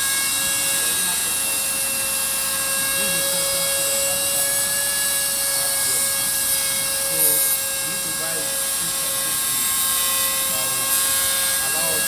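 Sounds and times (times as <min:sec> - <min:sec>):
router spindle whining: 0:00.0 - 0:12.0.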